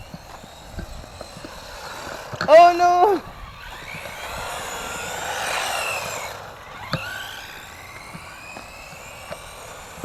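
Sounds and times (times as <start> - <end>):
toy truck electric motors whining: 0.0 - 10.0.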